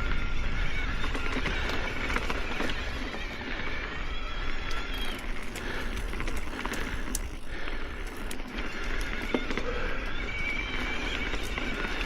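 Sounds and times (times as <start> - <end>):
tyres crunching over gravel: 0.0 - 4.0, 4.7 - 12.0
bike clicks and rattles: 0.0 - 12.0.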